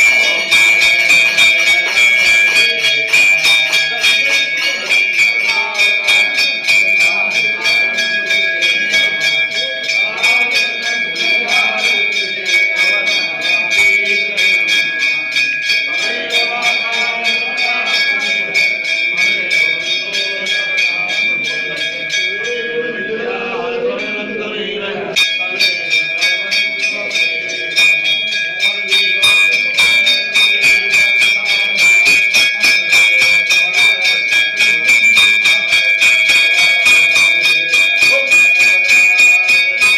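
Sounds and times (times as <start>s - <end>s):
people singing: 0.0s - 39.9s
temple bells ringing rapidly: 0.0s - 39.9s.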